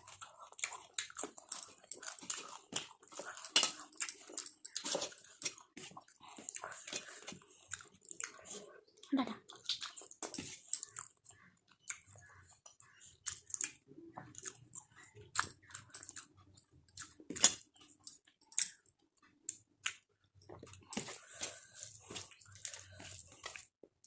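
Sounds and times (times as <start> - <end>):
chewing and biting food: 0.0 - 8.7, 9.5 - 23.8.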